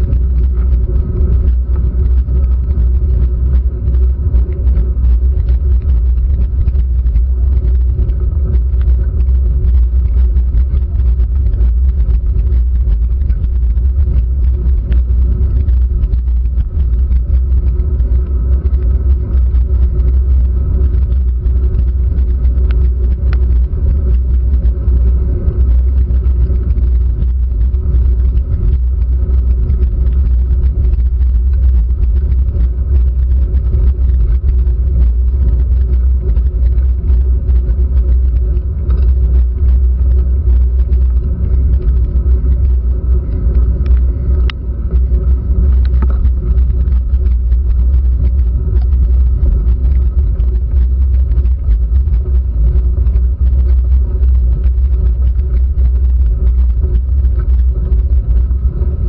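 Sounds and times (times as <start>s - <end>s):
rain ticking on camera housing: 0.0s - 59.0s
road vibration rumble: 0.0s - 59.0s.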